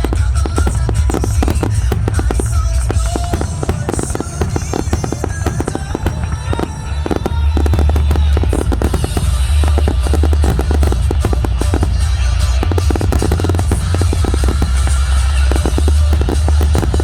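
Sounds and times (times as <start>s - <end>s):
deep continuous rumble: 0.0s - 17.0s
fireworks bangs and crackles: 0.0s - 17.0s
music playing: 0.0s - 17.0s.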